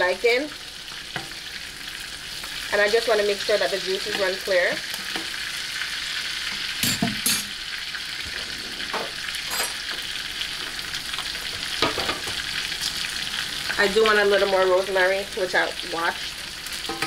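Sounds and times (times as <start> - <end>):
steak sizzling in a pan: 0.0 - 17.0.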